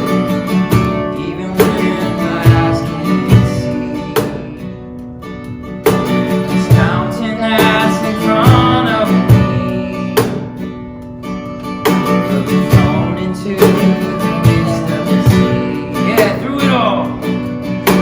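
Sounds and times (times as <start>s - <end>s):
strummed acoustic guitar: 0.0s - 18.0s
worship band music: 0.0s - 18.0s.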